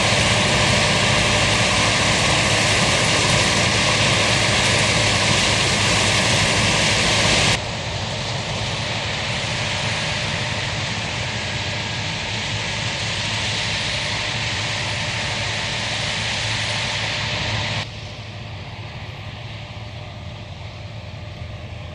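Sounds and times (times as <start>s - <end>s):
harvest machinery engine drone: 0.0s - 21.9s.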